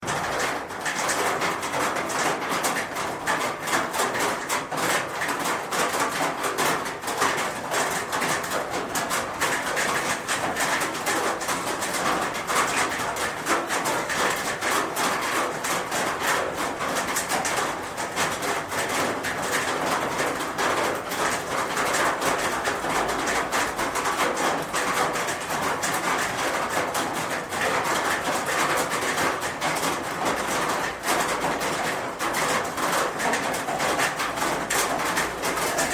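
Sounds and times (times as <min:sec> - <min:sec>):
rain falling on a roof: 0:00.0 - 0:35.9.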